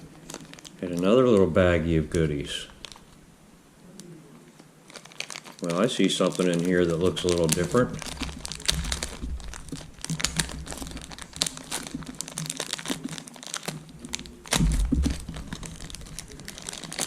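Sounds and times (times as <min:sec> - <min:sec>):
plastic bag crinkling: 0:00.0 - 0:03.2, 0:03.8 - 0:17.0.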